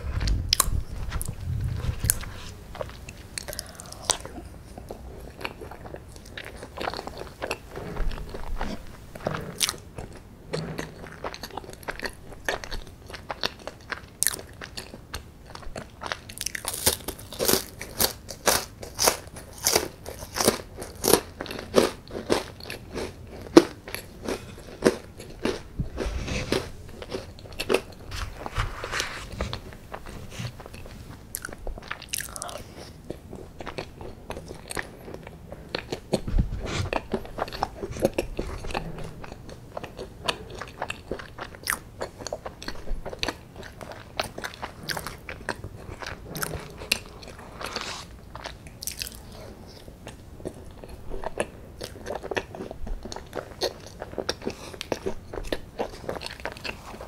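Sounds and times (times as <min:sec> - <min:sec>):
cookie crunching: 0:00.0 - 0:57.0
wet chewing of ice cream: 0:00.0 - 0:57.0.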